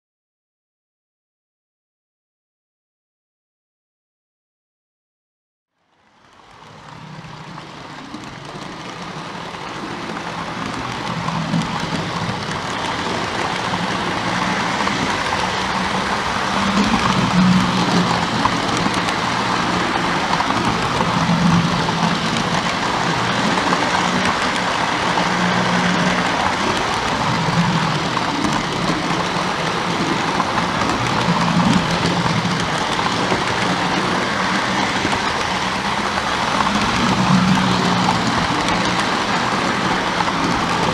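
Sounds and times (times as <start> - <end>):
model train wheels rattling: 6.2 - 40.9.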